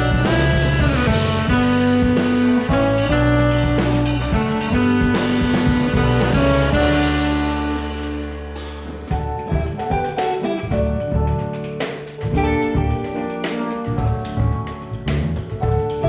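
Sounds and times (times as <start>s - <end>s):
drum and cymbal hits: 0.0s - 15.8s
jazz band playing: 0.0s - 16.0s.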